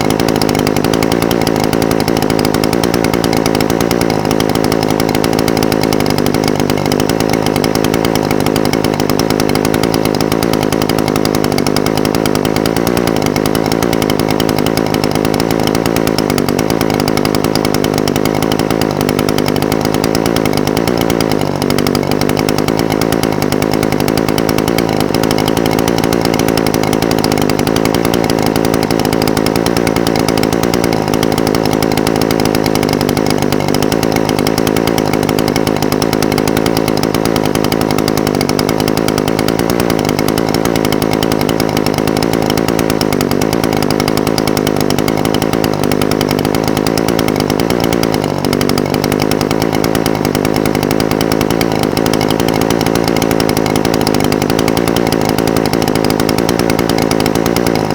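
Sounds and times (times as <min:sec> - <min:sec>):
brush cutter engine idling: 0:00.0 - 0:57.9.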